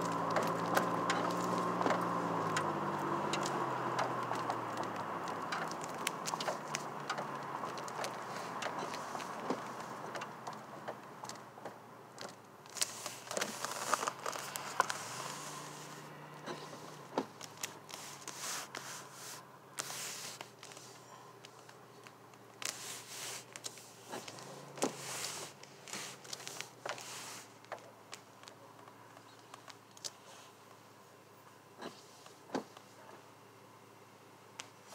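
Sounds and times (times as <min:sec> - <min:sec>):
clicks and rustles in car: 0:00.0 - 0:19.1, 0:19.7 - 0:30.8, 0:31.8 - 0:33.2
low engine hum: 0:00.0 - 0:34.9.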